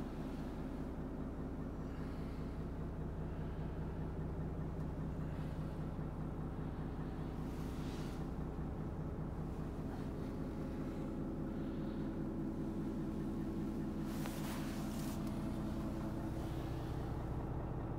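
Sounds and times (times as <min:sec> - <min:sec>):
diesel truck engine idling: 0:00.0 - 0:17.9.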